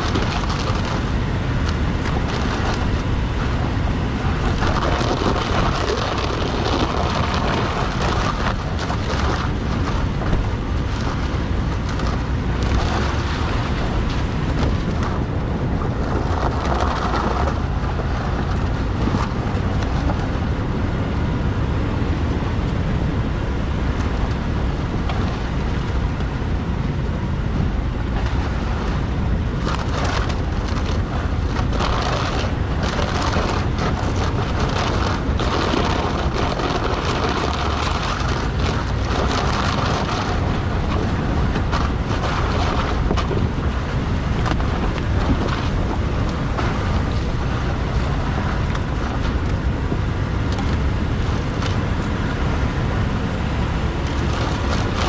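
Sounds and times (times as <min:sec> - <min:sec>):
truck engine and road noise: 0:00.0 - 0:55.0.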